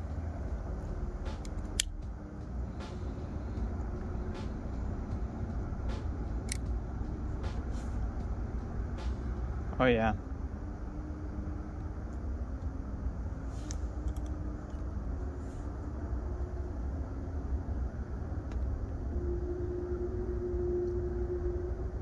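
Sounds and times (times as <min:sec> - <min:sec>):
distant engine hum: 0:00.0 - 0:22.0
outdoor background rumble: 0:00.0 - 0:22.0.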